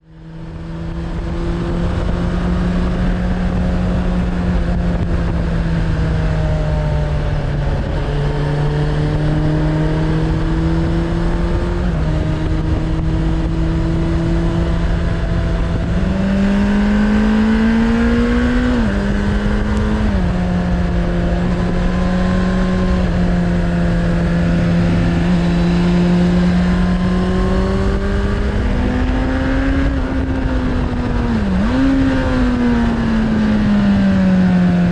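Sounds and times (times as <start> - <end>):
motorcycle engine revving: 0.0 - 34.9
wind and road noise: 0.0 - 34.9.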